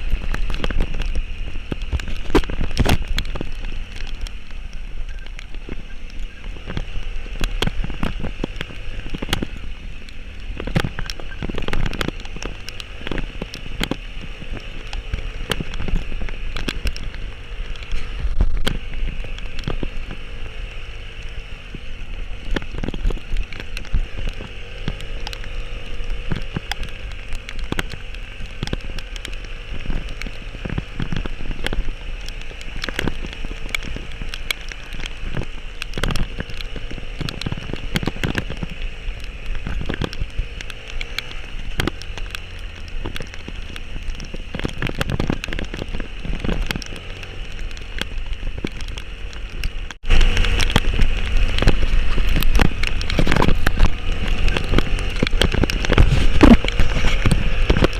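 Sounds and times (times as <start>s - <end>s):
heavy rain drops: 0.0s - 57.9s.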